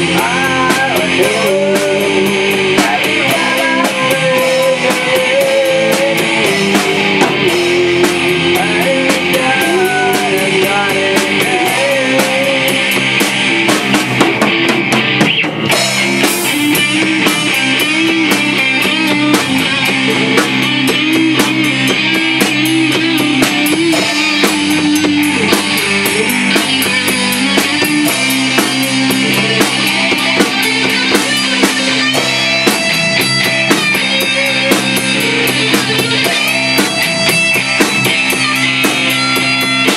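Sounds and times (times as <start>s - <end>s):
drum kit beat: 0.0s - 39.9s
electric guitars: 0.0s - 39.9s
live rock band: 0.0s - 39.9s.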